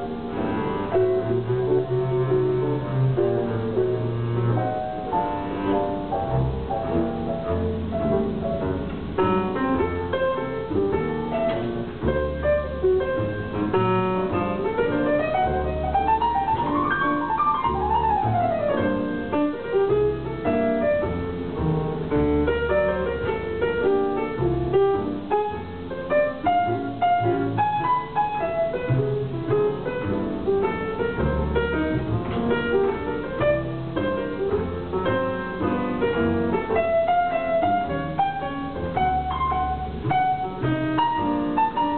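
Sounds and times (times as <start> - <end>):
grand piano playing: 0.0 - 41.9
plucked double bass: 0.0 - 41.9.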